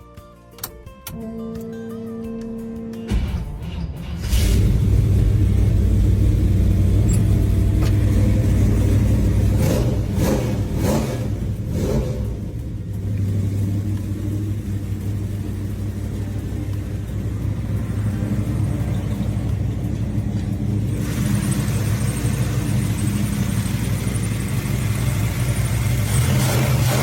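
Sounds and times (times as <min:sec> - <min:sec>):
car engine humming: 0:01.2 - 0:27.0.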